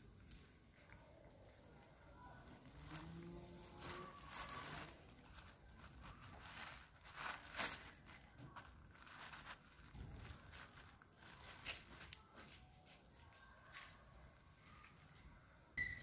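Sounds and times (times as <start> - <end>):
plastic bag crinkling: 0.1 - 15.4.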